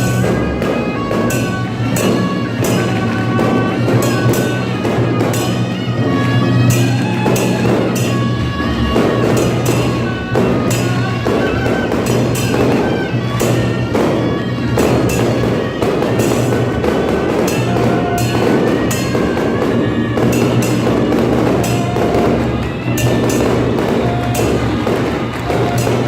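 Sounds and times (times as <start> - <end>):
cymbal strikes: 0.0 - 26.0
drums: 0.0 - 26.0
reed horns playing shrill notes: 0.0 - 26.0.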